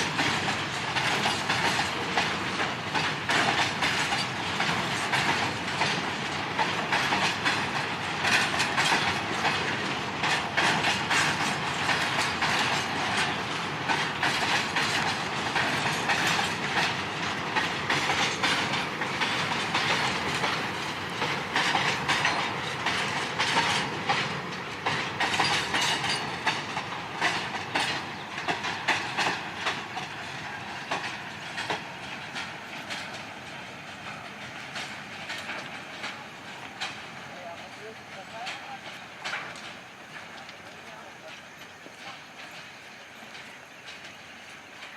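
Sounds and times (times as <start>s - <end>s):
train wheels clacking over rails: 0.0s - 44.9s.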